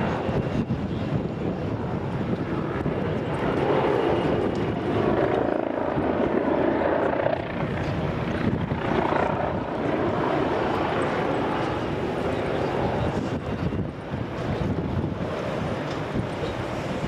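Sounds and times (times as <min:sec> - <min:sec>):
jet engines taxiing: 0:00.0 - 0:17.0.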